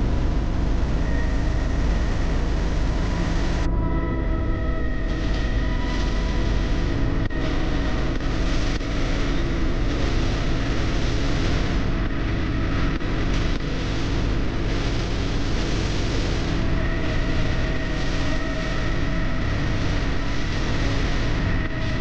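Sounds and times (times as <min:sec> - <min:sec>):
high steady whine: 0:00.0 - 0:22.0.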